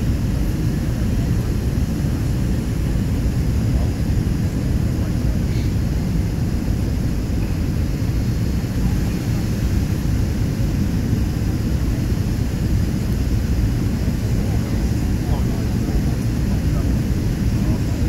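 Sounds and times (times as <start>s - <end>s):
jet engine cabin roar: 0.0s - 18.0s.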